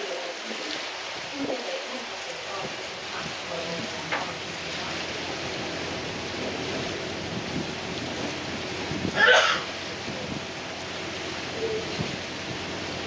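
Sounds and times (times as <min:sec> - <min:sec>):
water rushing past boat: 0:00.0 - 0:13.0.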